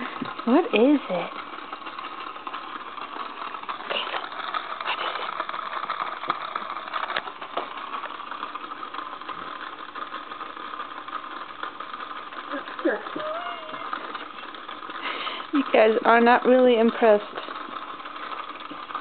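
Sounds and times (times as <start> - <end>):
small motor whirring: 0.0 - 19.0.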